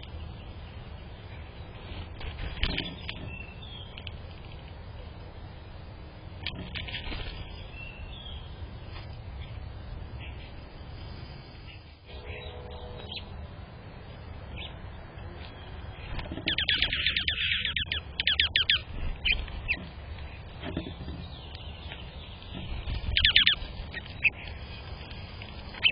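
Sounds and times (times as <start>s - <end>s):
low background rumble: 0.0s - 25.9s
songbirds chirping: 0.0s - 25.9s.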